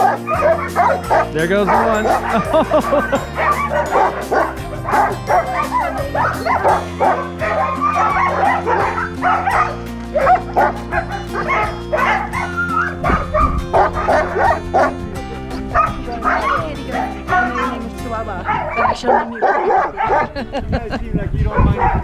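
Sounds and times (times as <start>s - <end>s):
dogs barking and yipping: 0.0s - 20.5s, 21.5s - 22.0s
background music with bass: 0.0s - 22.0s.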